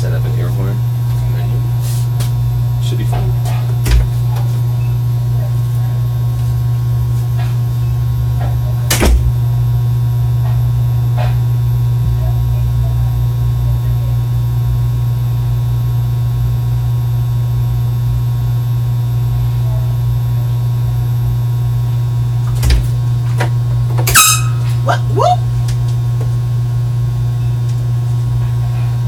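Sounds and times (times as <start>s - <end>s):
loud steady low hum: 0.0s - 29.0s.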